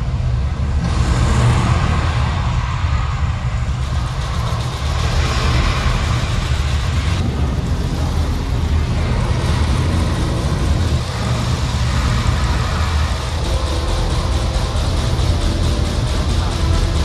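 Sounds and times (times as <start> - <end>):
rocket launch rumble over speakers: 0.4 - 17.0.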